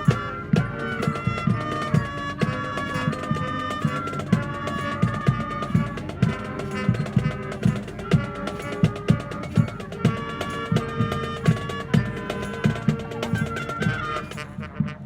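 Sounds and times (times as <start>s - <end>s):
steady drum beat: 0.0s - 14.8s
brass and wind melody: 0.0s - 15.0s.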